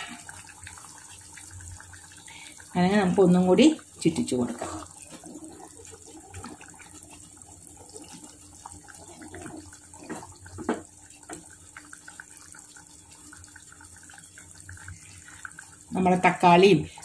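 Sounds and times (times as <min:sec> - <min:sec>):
curry simmering and sloshing in pot: 0:00.0 - 0:17.0.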